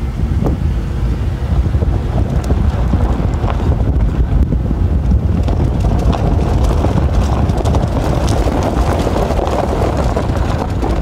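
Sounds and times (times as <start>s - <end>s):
car rumbling over gravel: 0.0s - 11.0s
wind buffeting: 0.0s - 11.0s.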